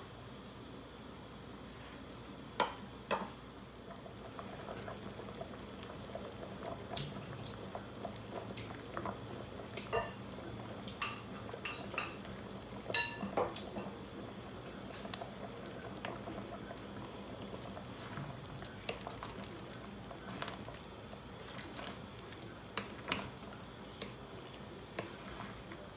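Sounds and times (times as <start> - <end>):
soup bubbling: 3.1 - 25.9.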